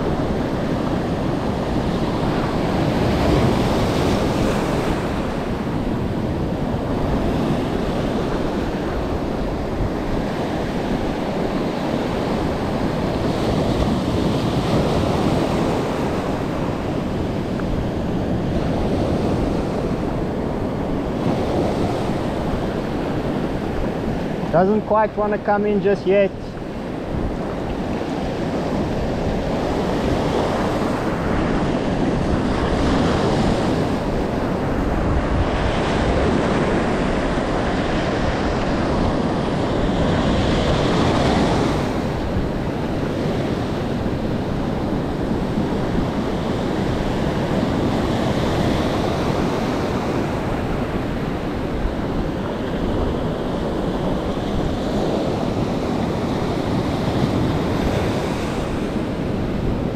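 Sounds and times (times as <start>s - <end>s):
surf breaking on beach: 0.0s - 59.9s
wind buffeting microphone: 0.0s - 59.9s.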